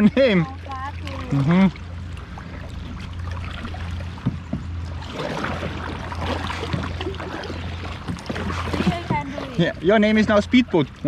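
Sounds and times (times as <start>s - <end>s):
steady low hum: 0.0s - 11.0s
kayak paddle splashing: 0.1s - 11.0s.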